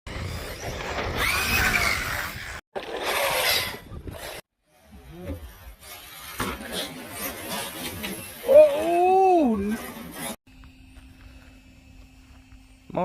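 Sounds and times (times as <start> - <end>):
outdoor ambient sound: 0.1 - 13.0
rc truck motor whine: 0.1 - 13.0.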